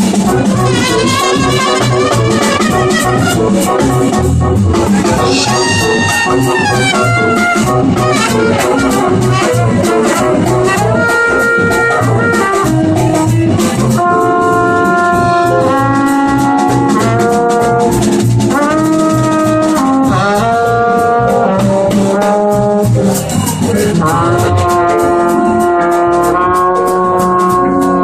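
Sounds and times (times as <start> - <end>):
drum kit: 0.0 - 28.0
electric bass: 0.0 - 28.0
trombone: 0.0 - 28.0
trumpet: 0.0 - 28.0.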